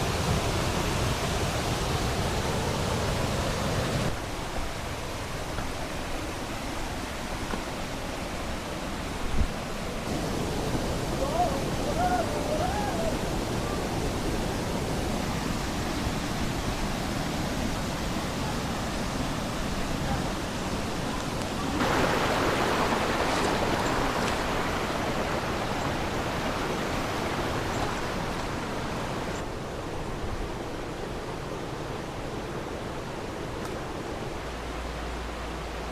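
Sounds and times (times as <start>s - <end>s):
creek water flowing: 0.0s - 35.9s.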